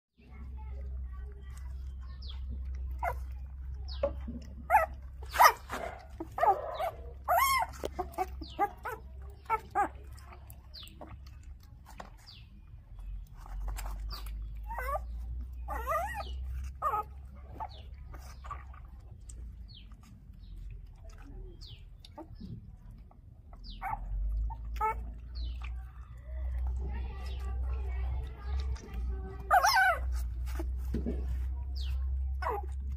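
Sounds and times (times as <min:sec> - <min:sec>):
puppies whining and yelping: 0:01.9 - 0:12.0, 0:13.3 - 0:20.2, 0:21.8 - 0:27.5, 0:28.5 - 0:32.9.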